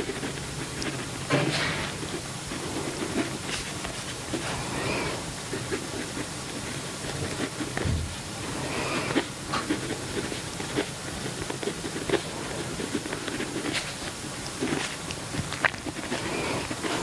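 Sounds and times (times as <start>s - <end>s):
pen scratching on paper: 0.0s - 17.0s
steady hiss: 0.0s - 17.0s.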